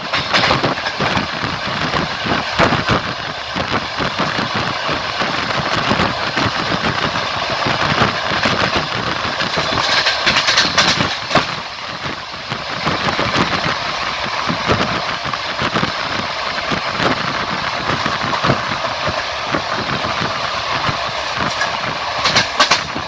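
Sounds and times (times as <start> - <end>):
train clatter and clicking: 0.0 - 23.0
train wheels rolling on rails: 0.0 - 23.0.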